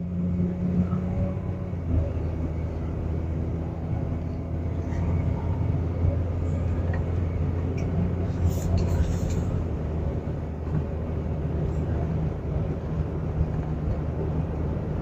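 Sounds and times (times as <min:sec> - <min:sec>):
road noise: 0:00.0 - 0:15.0
truck engine droning: 0:00.0 - 0:15.0.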